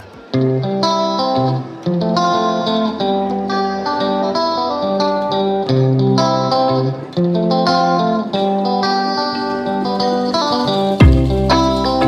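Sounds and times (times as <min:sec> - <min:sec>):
instrumental music with plucked guitar: 0:00.0 - 0:12.0.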